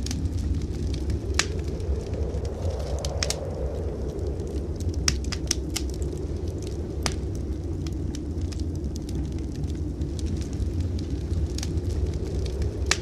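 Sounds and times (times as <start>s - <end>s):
low rumble: 0.0s - 13.0s
wood fire crackling: 0.0s - 13.0s.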